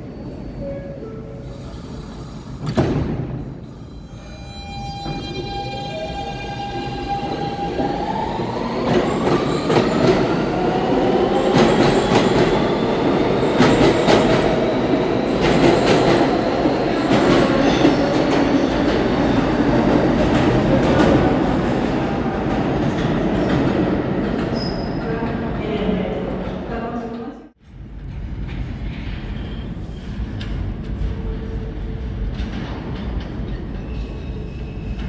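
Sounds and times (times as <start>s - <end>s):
subway train propulsion tone: 0.0s - 26.8s, 27.6s - 35.0s.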